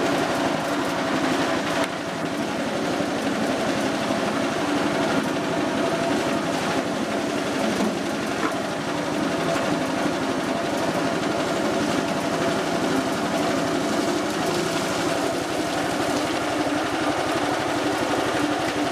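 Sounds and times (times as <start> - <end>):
small petrol engine running: 0.0 - 18.9.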